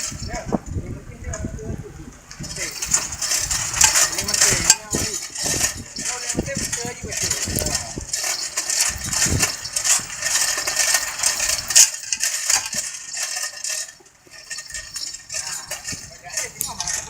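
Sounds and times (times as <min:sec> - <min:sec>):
heavy metal parts rattling: 0:00.0 - 0:01.5, 0:02.2 - 0:17.0.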